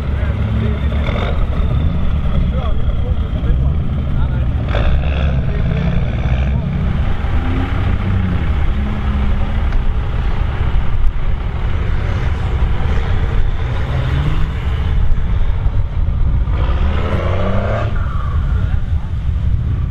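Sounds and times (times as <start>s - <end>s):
diesel truck engine under load: 0.0s - 19.8s.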